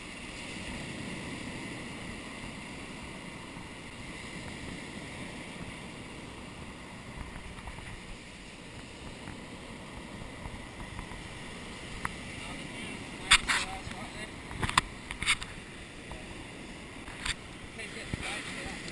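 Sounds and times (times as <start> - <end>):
surf breaking on beach: 0.0 - 18.9.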